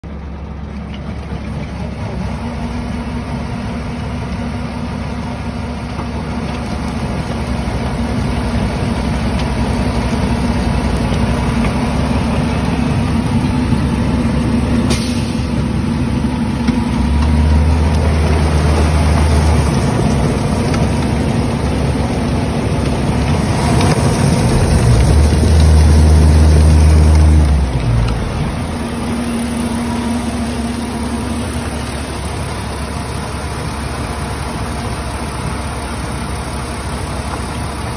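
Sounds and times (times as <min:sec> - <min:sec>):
concrete mixer truck engine running: 0:00.0 - 0:37.9
mixing machinery humming: 0:00.0 - 0:37.9.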